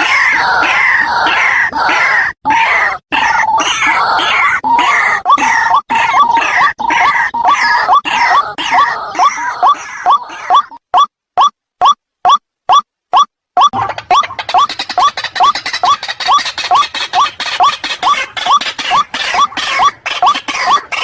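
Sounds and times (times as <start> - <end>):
bird harsh croaking calls: 0.0 - 10.8, 13.7 - 21.0.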